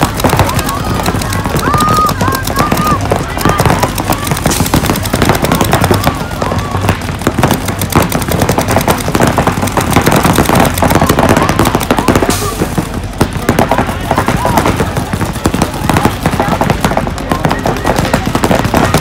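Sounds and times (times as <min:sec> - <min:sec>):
paintball guns firing rapidly: 0:00.0 - 0:19.0.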